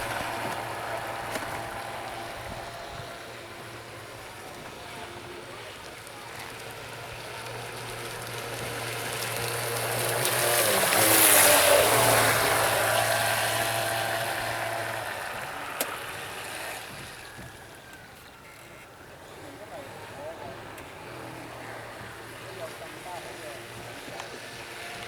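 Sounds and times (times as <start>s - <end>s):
model boat motor whine: 0.0s - 25.0s.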